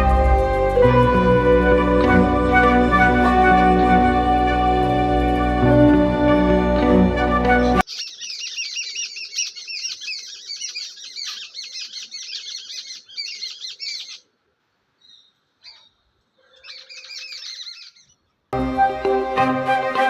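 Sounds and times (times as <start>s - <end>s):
birds chirping: 0.0s - 14.4s, 15.0s - 18.4s.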